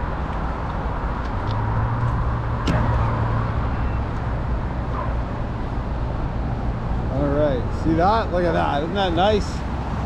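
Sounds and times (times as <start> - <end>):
road traffic roar: 0.0 - 10.0.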